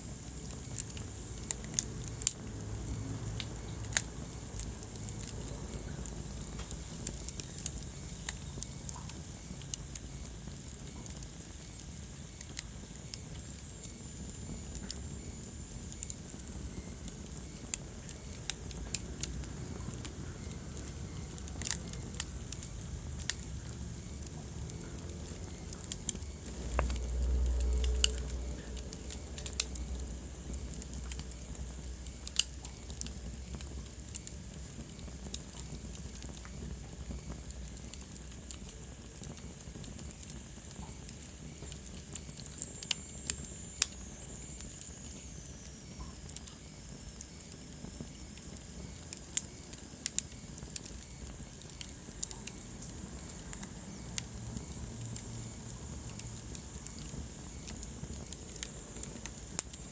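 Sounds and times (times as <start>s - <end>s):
low rumble of burning: 0.0s - 59.9s
wood fire crackling and popping: 0.0s - 59.9s.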